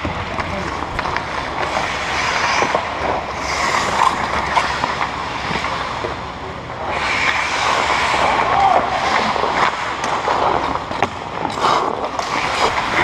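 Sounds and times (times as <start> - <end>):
hockey sticks clacking: 0.0 - 13.0
skates scraping on ice: 0.0 - 13.0.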